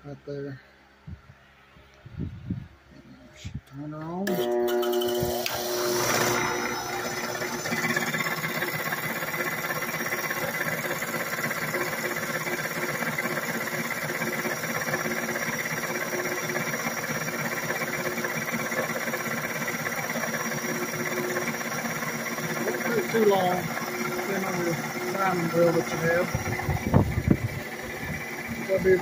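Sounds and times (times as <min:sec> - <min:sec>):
motor hum: 0:00.4 - 0:29.0
grinding wheel hiss: 0:04.3 - 0:29.0.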